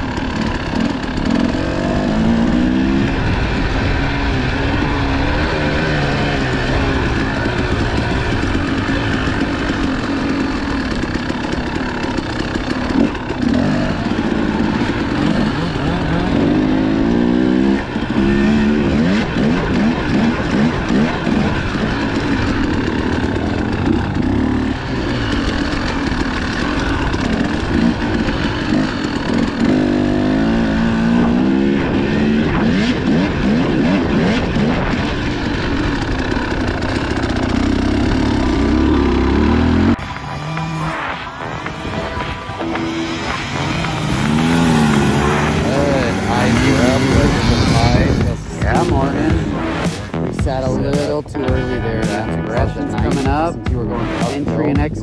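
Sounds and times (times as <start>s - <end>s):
dirt bike engines accelerating: 0.0s - 55.0s.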